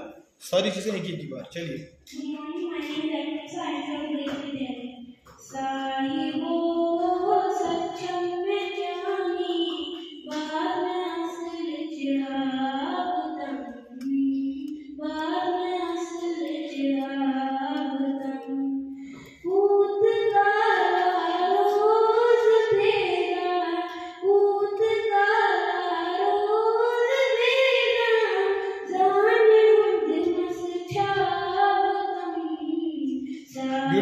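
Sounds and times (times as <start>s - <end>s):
child singing: 2.1s - 34.0s.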